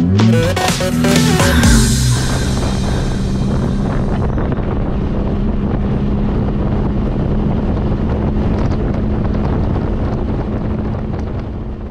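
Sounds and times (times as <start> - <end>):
car engine: 0.0 - 11.9
wind rushing over microphone: 1.8 - 11.9.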